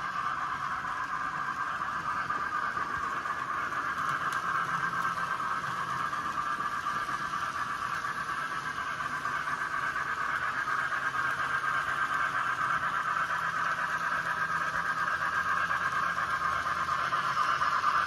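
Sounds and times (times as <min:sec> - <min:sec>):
model trains running on track: 0:00.0 - 0:18.0.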